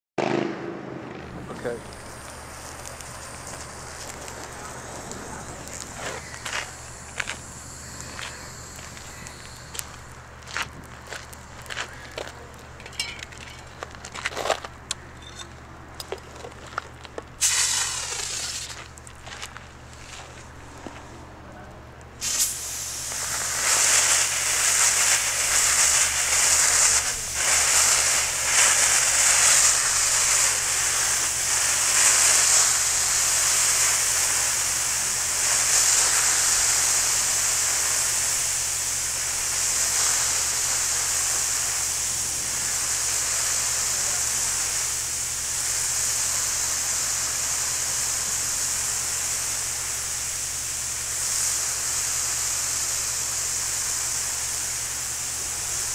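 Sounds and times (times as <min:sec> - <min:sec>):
extinguisher spray hissing: 0:01.4 - 0:12.1, 0:17.4 - 0:19.0, 0:22.2 - 0:55.9.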